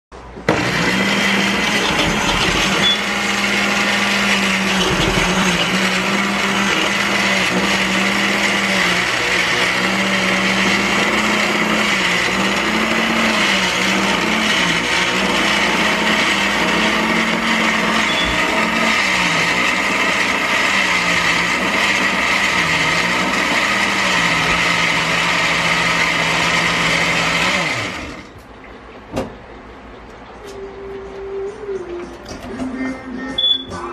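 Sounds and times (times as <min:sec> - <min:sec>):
blender running: 0:00.5 - 0:28.3.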